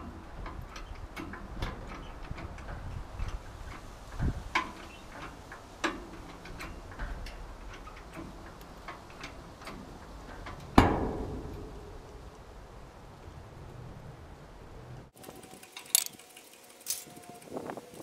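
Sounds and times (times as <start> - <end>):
metallic clicks and creaks: 0.0 - 12.6, 15.1 - 18.0.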